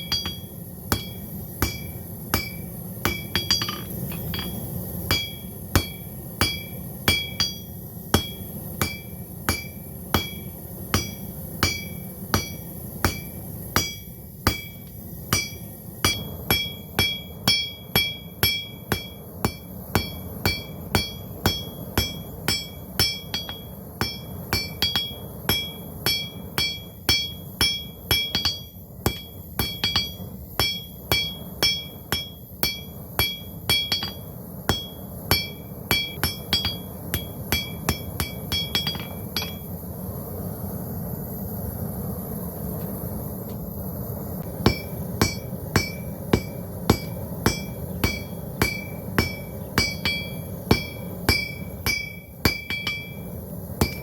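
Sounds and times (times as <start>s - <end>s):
hammer on hot steel: 0.0s - 39.8s, 44.4s - 54.0s.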